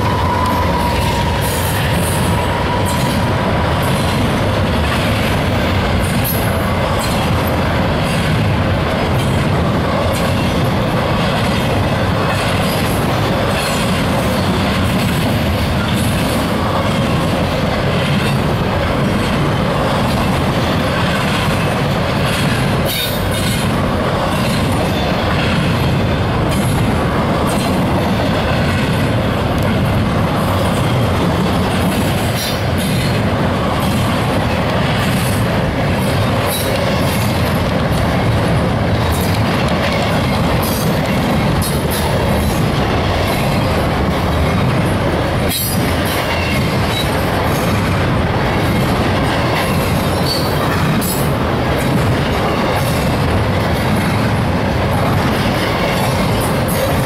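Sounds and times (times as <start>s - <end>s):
steel wheels rumbling on rails: 0.0s - 57.0s.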